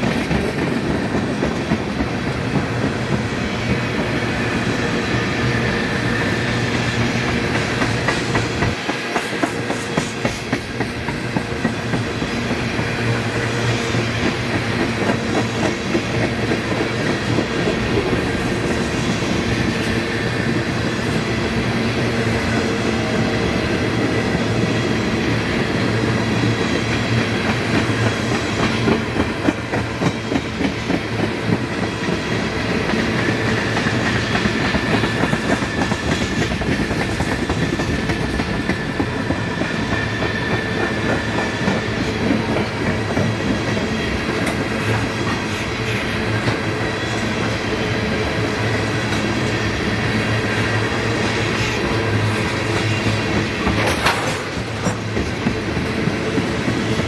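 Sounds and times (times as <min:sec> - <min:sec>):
freight train wheels clacking on rails: 0:00.0 - 0:57.0.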